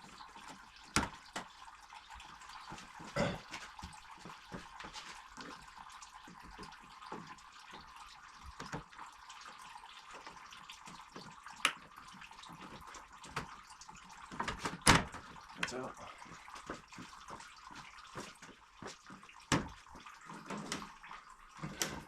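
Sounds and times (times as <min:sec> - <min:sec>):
coolant trickling and dripping: 0:00.0 - 0:22.0.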